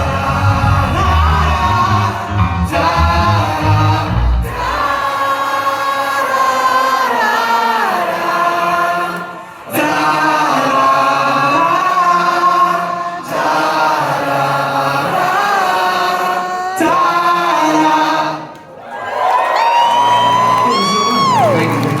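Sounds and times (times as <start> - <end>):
choir singing: 0.0 - 18.5.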